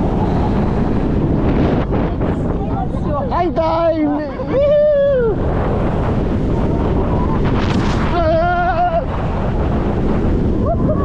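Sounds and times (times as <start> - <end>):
roller coaster wind rush and rumble: 0.0 - 11.0.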